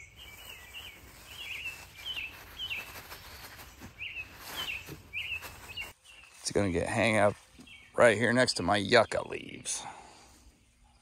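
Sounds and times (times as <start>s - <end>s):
low outdoor background noise: 0.0s - 11.0s
songbird chirping: 0.0s - 11.0s.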